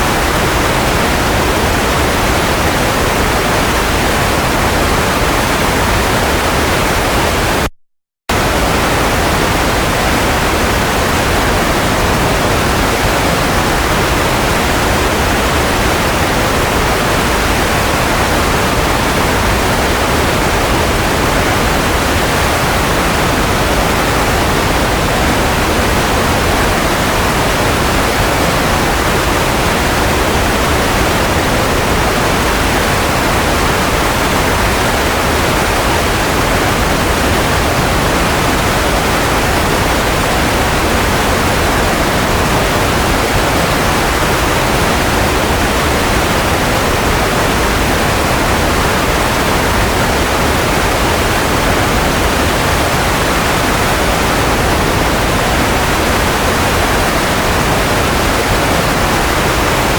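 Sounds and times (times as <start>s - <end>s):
steady white noise hiss: 0.0s - 7.6s, 8.3s - 59.9s.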